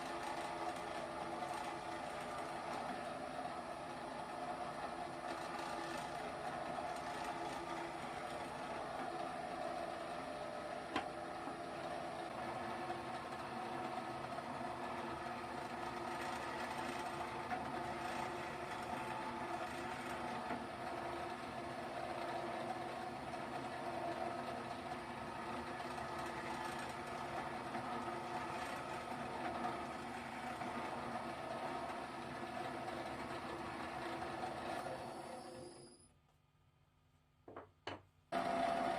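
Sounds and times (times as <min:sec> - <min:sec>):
drill press motor running: 0:00.0 - 0:36.0, 0:38.3 - 0:38.9.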